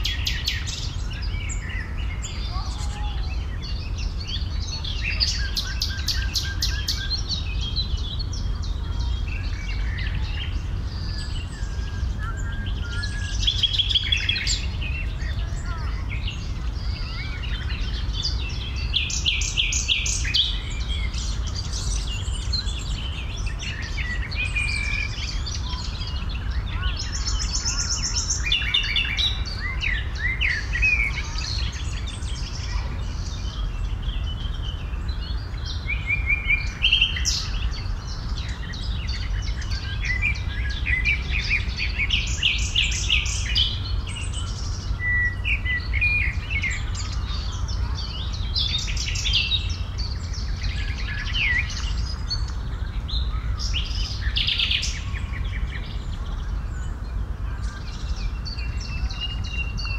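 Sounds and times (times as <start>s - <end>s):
birds singing and calling: 0.0s - 59.9s
steady low rumble: 0.0s - 59.9s.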